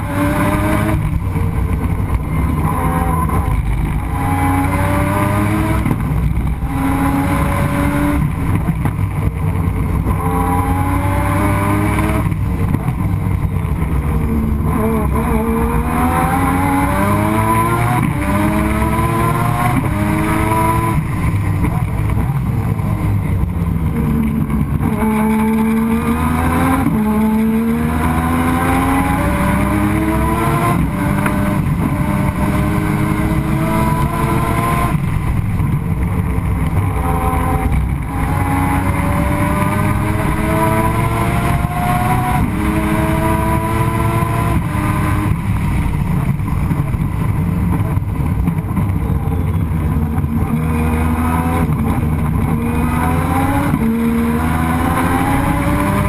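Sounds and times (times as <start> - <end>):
race car rotary engine revving: 0.0 - 56.0.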